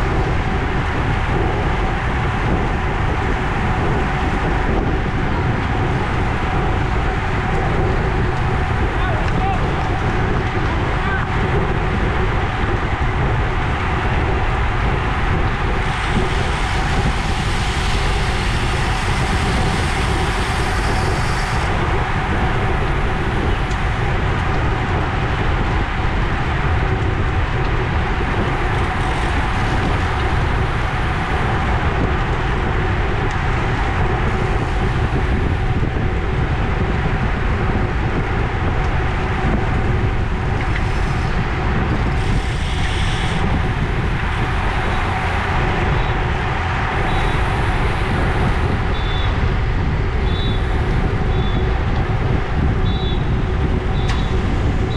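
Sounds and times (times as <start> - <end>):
bicycle tyre and road noise: 0.0 - 54.9
wind rush on microphone: 0.0 - 54.9.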